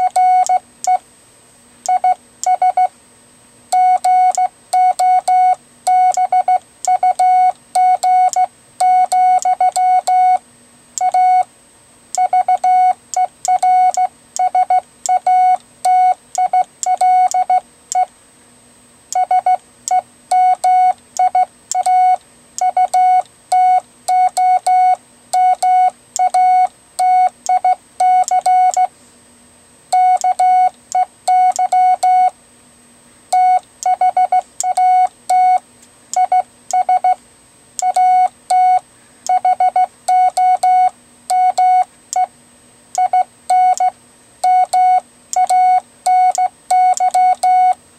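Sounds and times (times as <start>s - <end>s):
morse code beeps: 0.0s - 1.0s, 1.9s - 2.9s, 3.8s - 10.4s, 11.0s - 11.5s, 12.2s - 18.1s, 19.2s - 28.9s, 30.0s - 32.3s, 33.4s - 35.6s, 36.2s - 37.2s, 37.8s - 42.3s, 43.0s - 47.8s.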